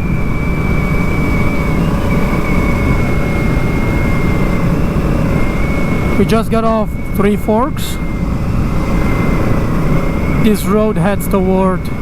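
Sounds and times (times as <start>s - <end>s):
faint high whine: 0.0s - 12.0s
motorcycle engine: 0.0s - 12.0s
road noise: 0.0s - 12.0s
wind rush on microphone: 0.0s - 12.0s.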